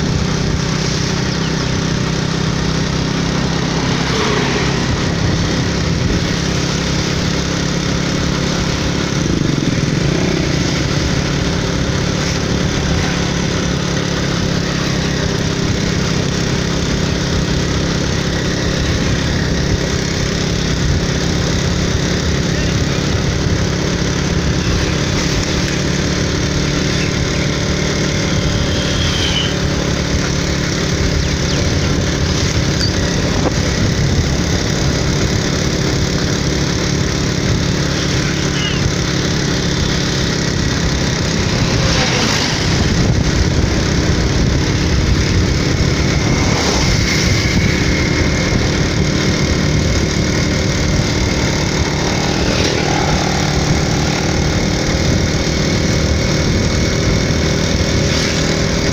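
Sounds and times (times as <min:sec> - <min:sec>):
motorcycle engine running: 0:00.0 - 0:58.9
passing traffic: 0:00.0 - 0:58.9
wind and road noise: 0:00.0 - 0:58.9.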